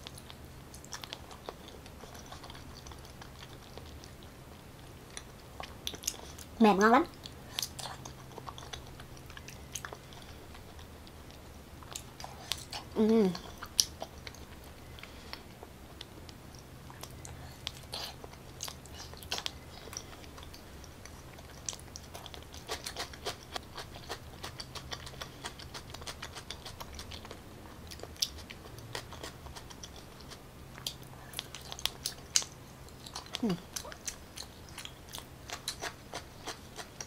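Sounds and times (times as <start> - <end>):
low steady hum: 0.0 - 37.0
mouth chewing wet clicks: 0.0 - 37.0.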